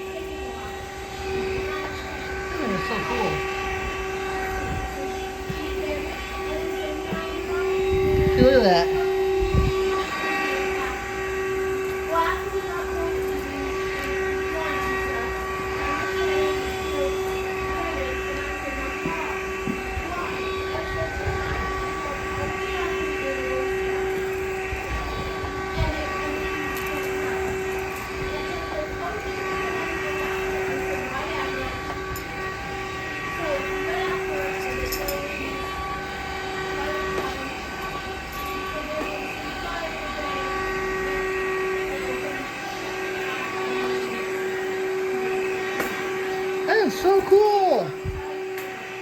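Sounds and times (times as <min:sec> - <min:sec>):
vacuum cleaner motor whine: 0:00.0 - 0:49.0.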